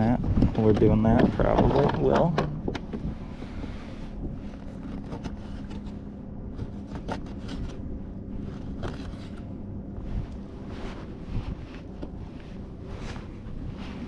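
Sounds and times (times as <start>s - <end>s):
faint hum: 0.0s - 14.0s
steady low rumble: 0.0s - 14.0s.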